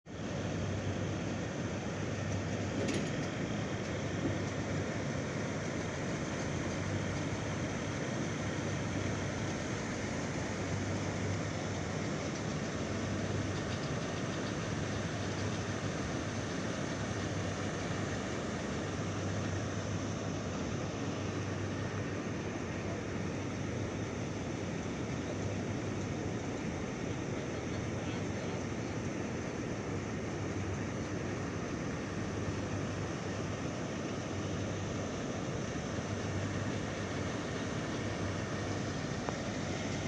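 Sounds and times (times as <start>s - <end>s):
constant hiss: 0.1s - 40.0s
heavy machinery engine drone: 0.1s - 40.0s.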